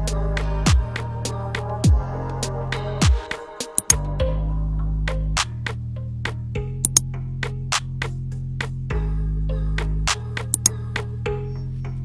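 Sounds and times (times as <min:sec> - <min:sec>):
electronic music with beat: 0:00.0 - 0:09.0, 0:09.8 - 0:12.0.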